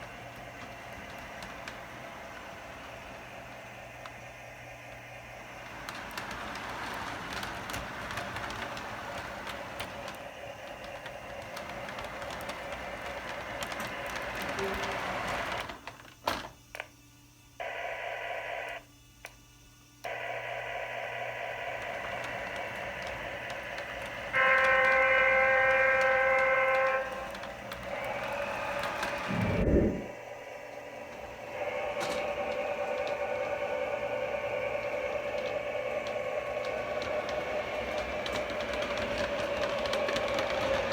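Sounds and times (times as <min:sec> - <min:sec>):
model locomotive rumble: 0:00.0 - 0:16.0, 0:20.1 - 0:40.9.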